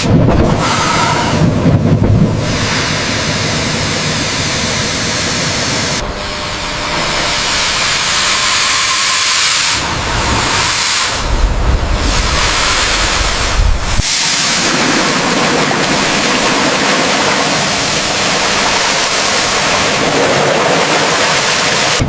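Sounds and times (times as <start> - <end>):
low rumble: 0.0 - 22.0
high-pressure jet hissing on metal: 0.6 - 1.5, 2.3 - 11.3, 12.0 - 22.0.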